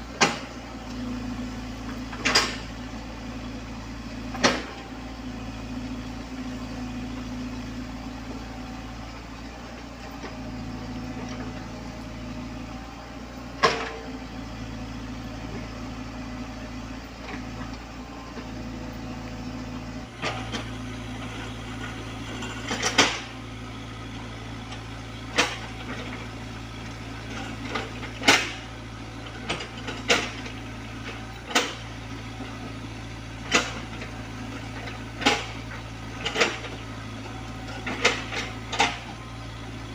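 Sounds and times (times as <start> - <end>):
mini excavator running: 0.0 - 39.9.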